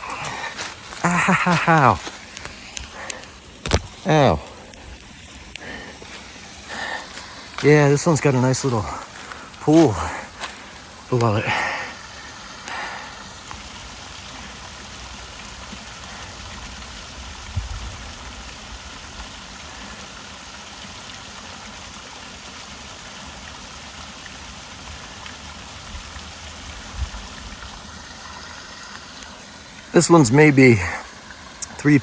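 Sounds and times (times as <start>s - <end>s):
waterfall splashing into pool: 0.0s - 32.0s.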